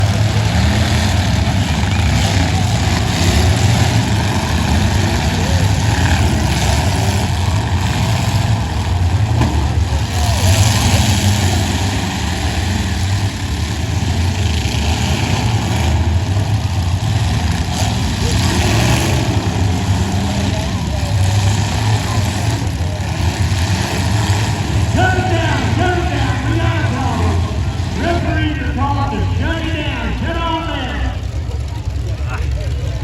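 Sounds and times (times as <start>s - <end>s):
car engines running: 0.0s - 33.0s.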